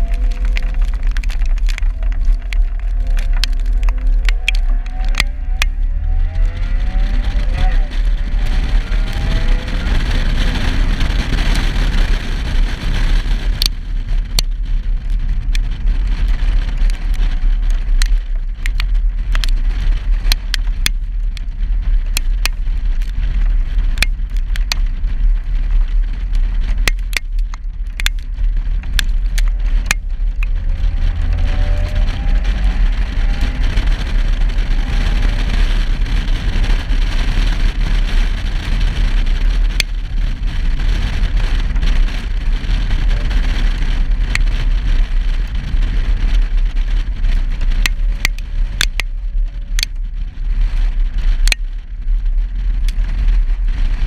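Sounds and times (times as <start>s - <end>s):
car exhaust rumble: 0.0s - 54.0s
raindrops ticking on camera: 0.0s - 54.0s
wind rumble: 0.0s - 54.0s.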